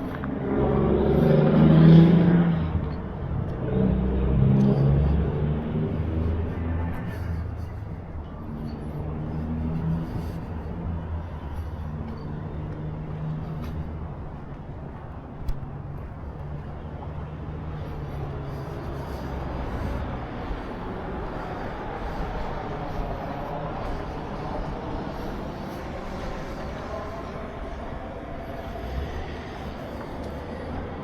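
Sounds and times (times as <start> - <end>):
vehicle engines low hum: 0.0 - 31.0.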